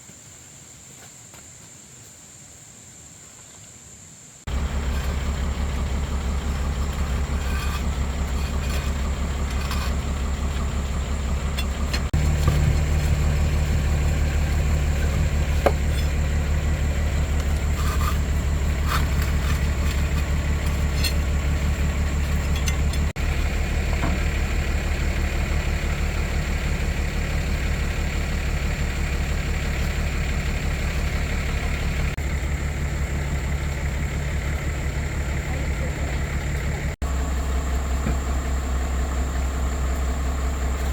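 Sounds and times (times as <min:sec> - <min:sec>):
excavator diesel engine running: 0:04.5 - 0:40.9.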